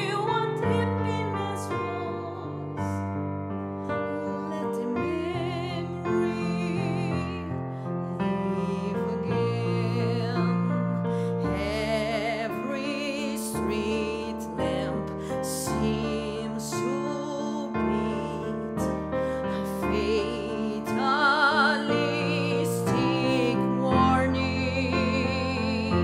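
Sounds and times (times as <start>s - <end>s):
woman singing ballad: 0.0s - 3.2s, 3.8s - 26.0s
piano accompaniment: 0.0s - 26.0s.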